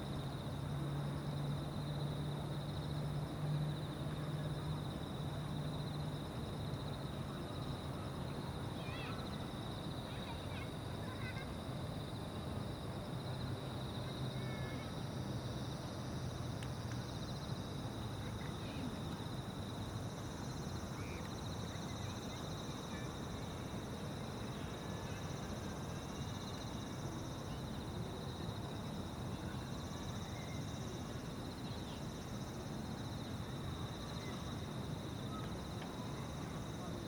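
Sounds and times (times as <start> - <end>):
insects trilling: 4.5 - 37.0.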